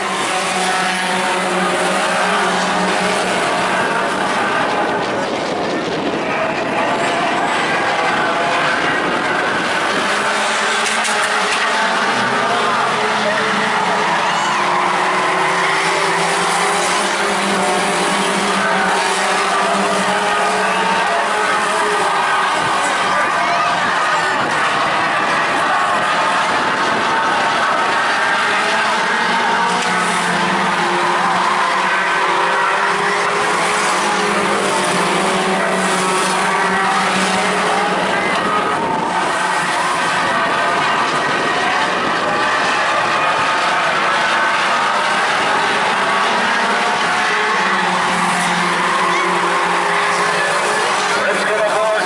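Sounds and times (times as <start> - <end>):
racing car engines droning: 0.0 - 52.0.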